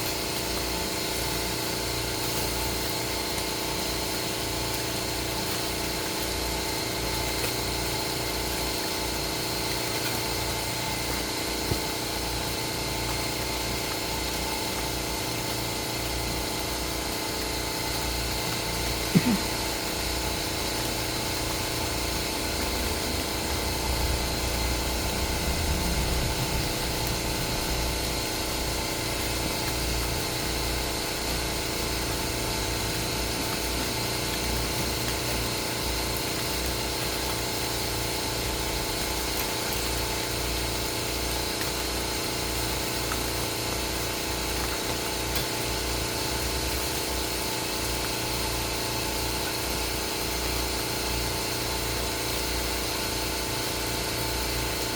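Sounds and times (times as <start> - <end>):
mechanical hum with low rumble: 0.0 - 54.9.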